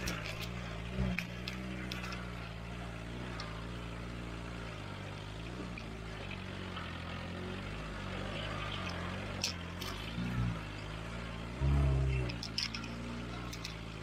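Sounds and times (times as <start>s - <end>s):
jeep engine at low revs: 0.0s - 14.0s.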